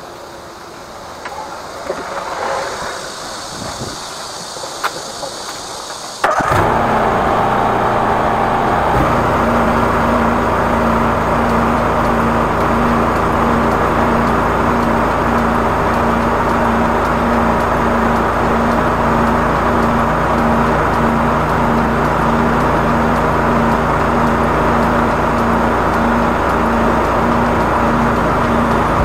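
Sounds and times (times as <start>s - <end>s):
sewer jetter engine droning: 0.0s - 29.0s.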